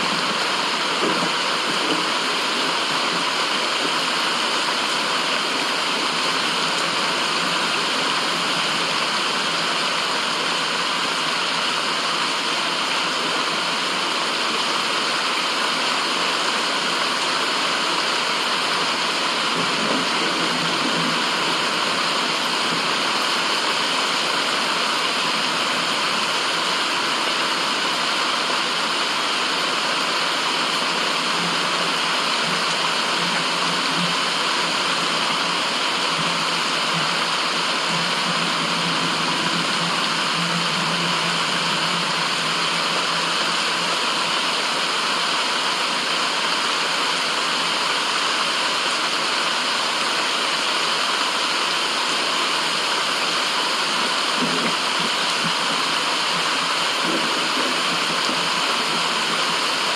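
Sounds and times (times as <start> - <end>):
white noise rushing: 0.0 - 59.9.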